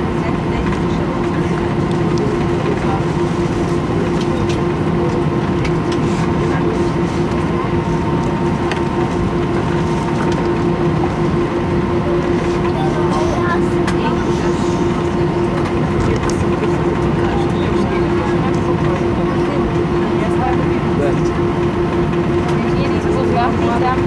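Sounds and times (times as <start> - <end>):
air conditioning: 0.0 - 24.0
constant hum tone: 0.0 - 24.0
jet engines idling: 0.0 - 24.0.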